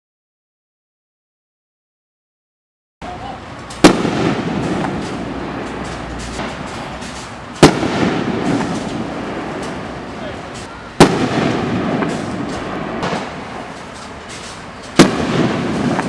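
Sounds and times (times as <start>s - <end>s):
firework reports: 3.0s - 16.0s
fireworks rumble and crackle: 3.0s - 16.0s.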